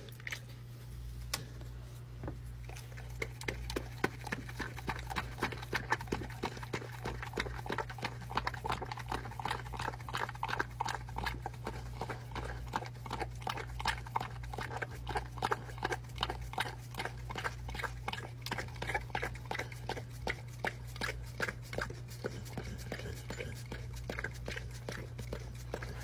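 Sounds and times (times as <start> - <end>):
dog licking wetly: 2.6 - 26.0.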